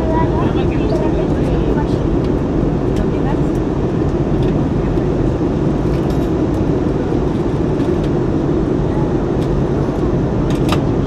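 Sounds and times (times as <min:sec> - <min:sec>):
airplane cabin engine noise: 0:00.0 - 0:11.0.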